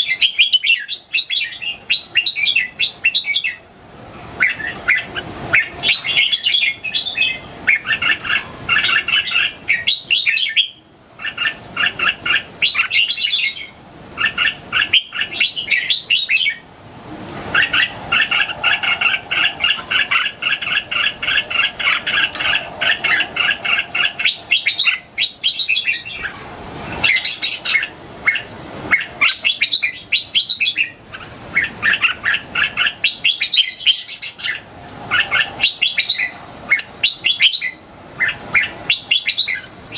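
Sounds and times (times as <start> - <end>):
bird chirping song: 0.0 - 3.7, 4.4 - 16.6, 17.5 - 26.4, 27.0 - 39.8.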